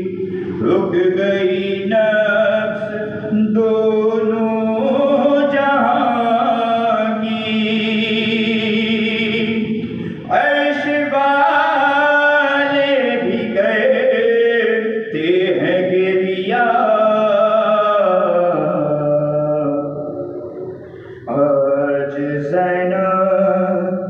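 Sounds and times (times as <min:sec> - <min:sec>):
man chanting lament into microphone: 0:00.0 - 0:20.2, 0:21.1 - 0:24.0.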